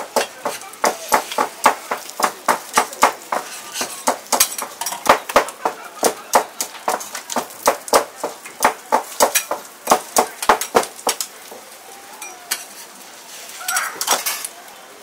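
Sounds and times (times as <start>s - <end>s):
metal spatulas scraping griddle: 0.0s - 11.3s, 12.2s - 14.5s.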